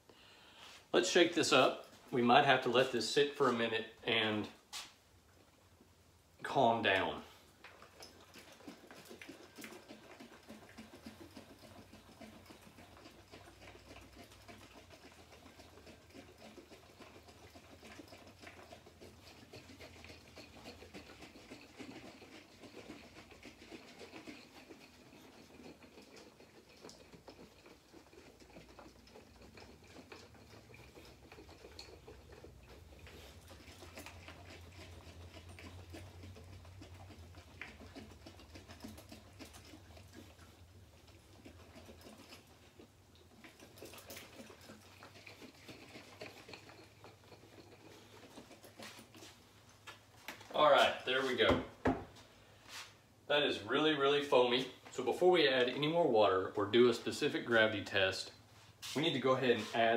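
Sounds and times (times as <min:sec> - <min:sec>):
liquid sloshing in glass jug: 0:06.4 - 0:59.9.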